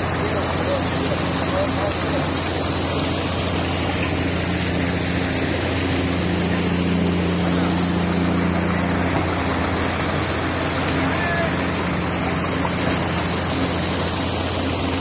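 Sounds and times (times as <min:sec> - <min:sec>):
boat engine running: 0:00.0 - 0:15.0
water splashing and churning: 0:00.0 - 0:15.0.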